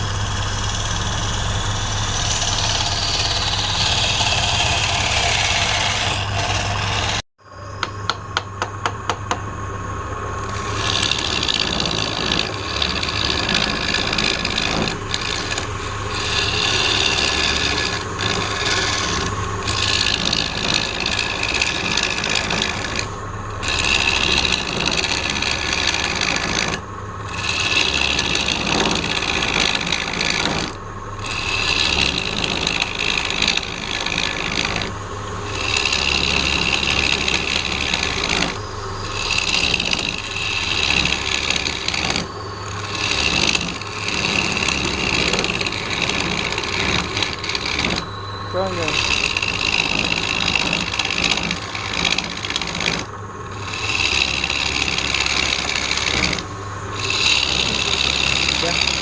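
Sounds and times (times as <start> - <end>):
lathe motor humming: 0.0 - 59.0
tool rasping against spinning wood: 0.0 - 59.0.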